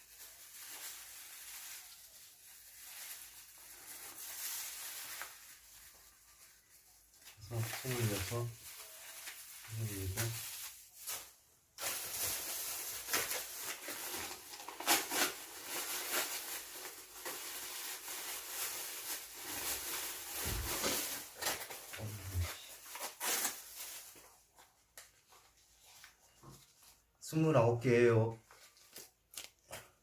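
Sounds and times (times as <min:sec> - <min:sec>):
packaging rustling and crinkling: 0:00.0 - 0:27.1, 0:28.4 - 0:29.7.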